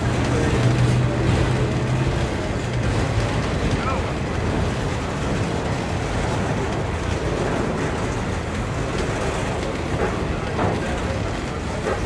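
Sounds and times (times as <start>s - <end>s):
freight train wheels on rails: 0.0s - 12.0s.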